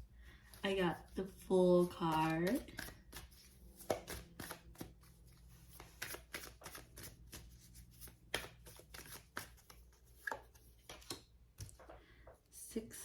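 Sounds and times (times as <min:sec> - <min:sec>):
cards being shuffled: 0:00.5 - 0:11.9.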